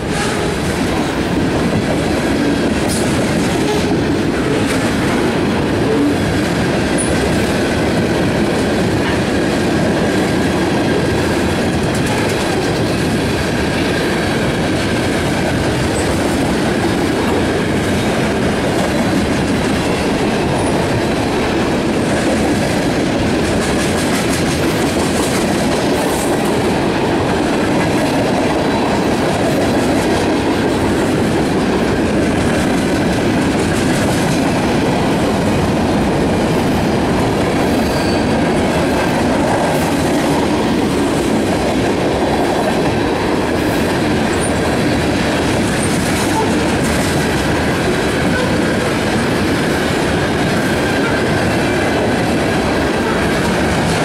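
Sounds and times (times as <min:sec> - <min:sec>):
freight train rolling past: 0:00.0 - 0:54.0
steel wheels on rail: 0:00.0 - 0:54.0.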